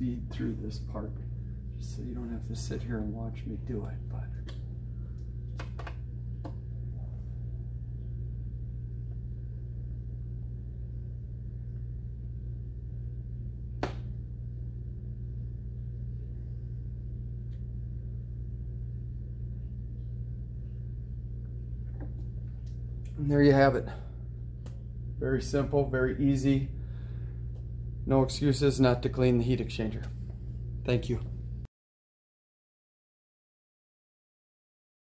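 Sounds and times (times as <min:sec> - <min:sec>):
steady low hum: 0:00.0 - 0:31.7.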